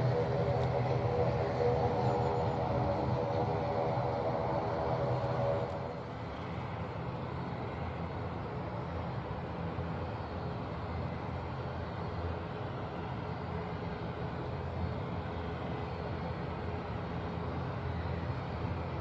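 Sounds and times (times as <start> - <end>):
faint steady engine whine: 0.0 - 19.0
turboprop engines droning: 0.0 - 19.0.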